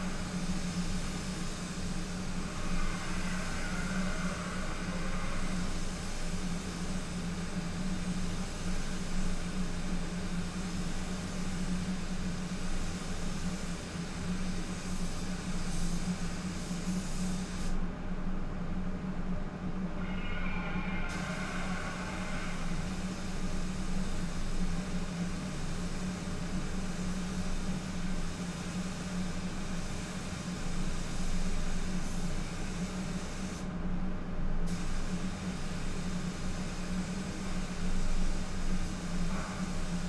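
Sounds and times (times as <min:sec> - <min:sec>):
spray gun air hiss: 0:00.0 - 0:17.8, 0:20.9 - 0:33.8, 0:34.6 - 0:40.0
ventilation hum: 0:00.0 - 0:40.0.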